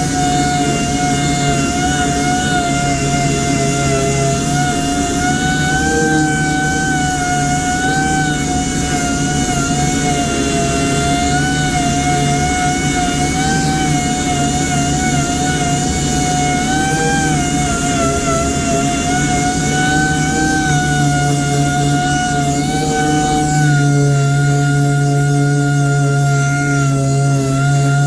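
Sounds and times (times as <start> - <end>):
power sander whining: 0.0 - 28.0.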